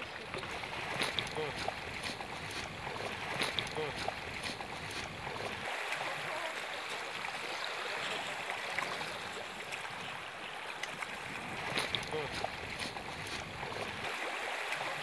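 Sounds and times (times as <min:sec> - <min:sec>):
water rushing and splashing: 0:00.0 - 0:15.0.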